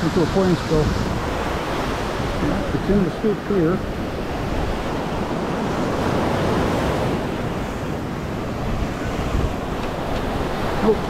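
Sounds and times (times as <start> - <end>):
surf washing on beach: 0.0 - 11.0
wind rumbling on microphone: 0.0 - 11.0.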